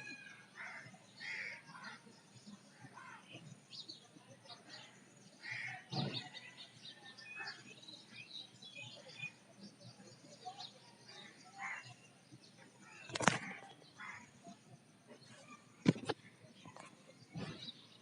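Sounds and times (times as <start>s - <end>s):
faint outdoor background: 0.0s - 18.0s
small birds chirping: 0.0s - 18.0s.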